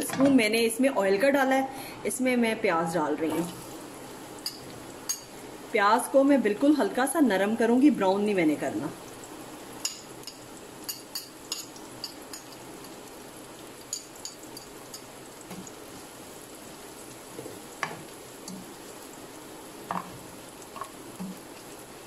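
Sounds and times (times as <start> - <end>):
onions sizzling in a frying pan: 2.7 - 22.0.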